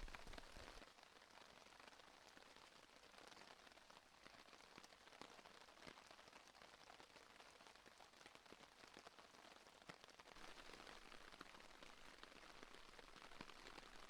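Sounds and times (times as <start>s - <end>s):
rain on a tarp: 0.0s - 14.0s.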